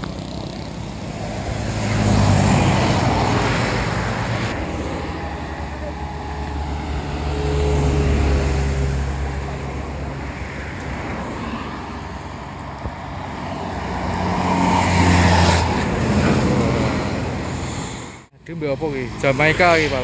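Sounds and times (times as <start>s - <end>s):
bus engine passing: 0.0s - 20.0s
steady traffic noise: 0.0s - 20.0s.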